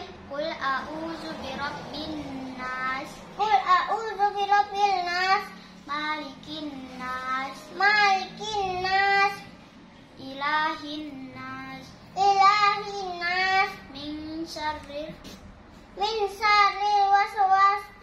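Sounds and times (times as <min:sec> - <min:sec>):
girl chanting recitation: 0:00.0 - 0:15.3, 0:15.9 - 0:18.0.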